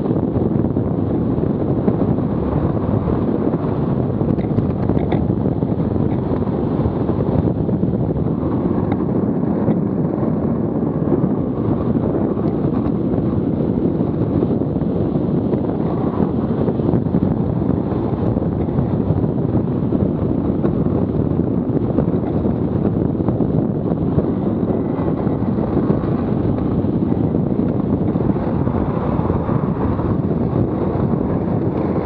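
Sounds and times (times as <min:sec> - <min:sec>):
hard wheels rolling on asphalt: 0:00.0 - 0:32.0
wind rushing on microphone: 0:00.0 - 0:32.0.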